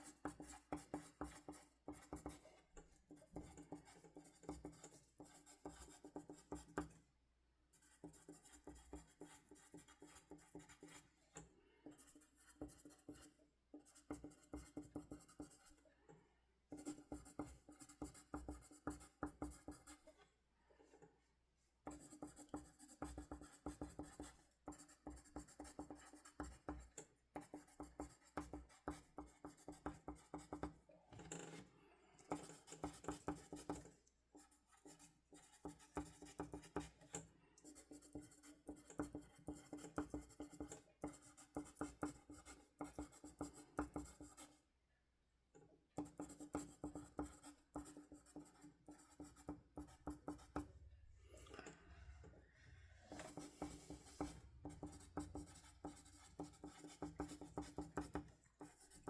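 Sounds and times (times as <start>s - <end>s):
pen scratching on paper: 0.0s - 2.5s, 3.1s - 6.9s, 7.7s - 11.1s, 11.8s - 15.8s, 16.7s - 20.0s, 21.8s - 30.7s, 32.3s - 44.5s, 46.0s - 50.7s, 53.0s - 59.0s.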